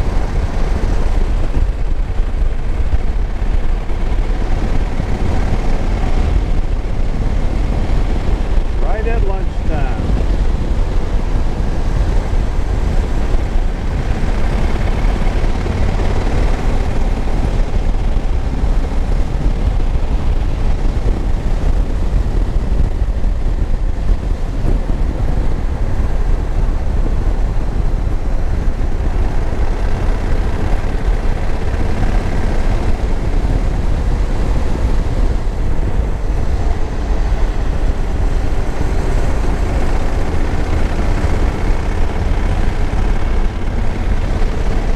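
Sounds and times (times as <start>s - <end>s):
motorcycle engine running: 0.0s - 44.9s
wind rumbling on microphone: 0.0s - 44.9s.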